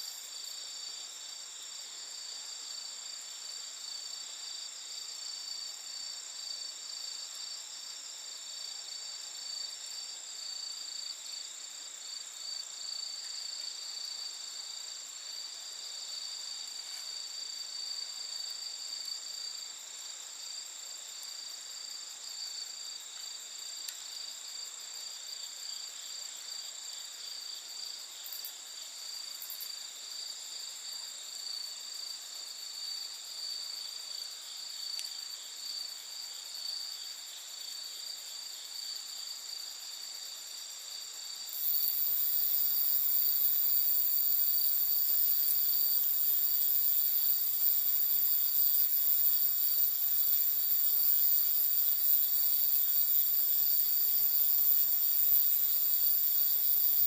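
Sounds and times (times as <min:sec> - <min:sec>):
night insects chirping: 0:00.0 - 0:57.0.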